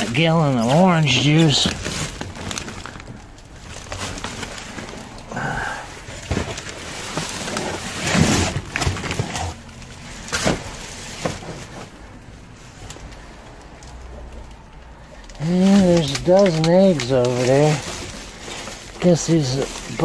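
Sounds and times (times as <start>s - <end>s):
packages rustling in a dumpster: 0.0s - 20.0s.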